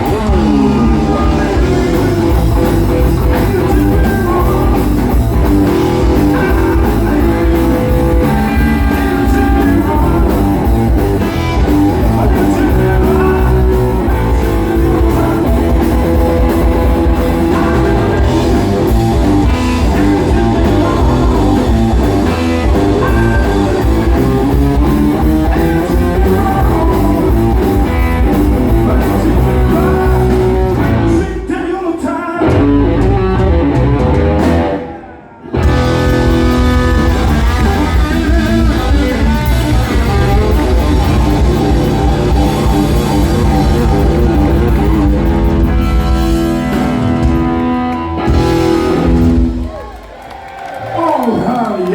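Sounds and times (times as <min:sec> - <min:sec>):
blues rock band playing: 0:00.0 - 0:31.5, 0:32.2 - 0:51.9
electric guitar: 0:00.0 - 0:31.5, 0:32.4 - 0:51.9.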